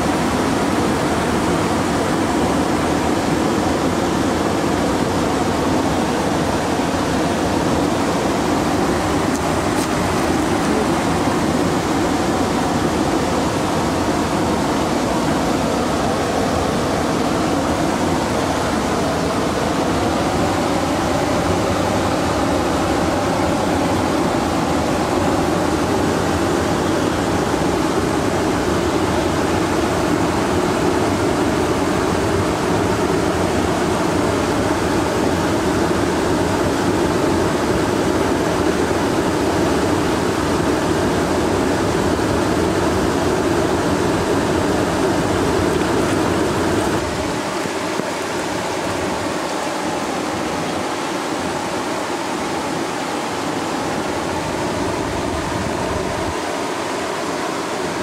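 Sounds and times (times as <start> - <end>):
river water pouring over a weir: 0.0 - 58.0.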